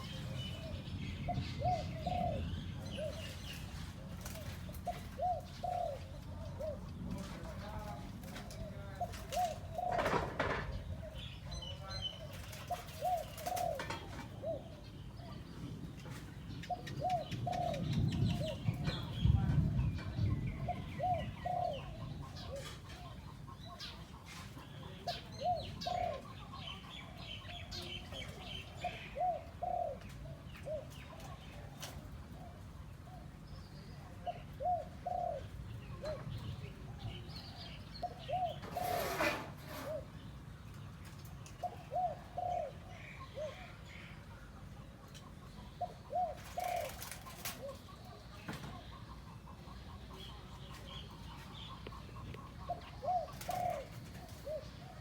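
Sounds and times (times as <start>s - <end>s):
dove cooing: 0.0s - 15.4s, 16.1s - 40.3s, 41.4s - 55.0s
small birds chirping: 0.0s - 55.0s.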